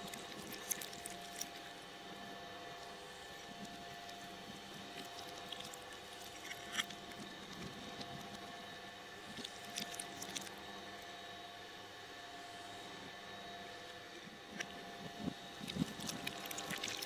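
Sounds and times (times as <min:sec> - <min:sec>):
shredder motor humming: 0:00.0 - 0:17.0.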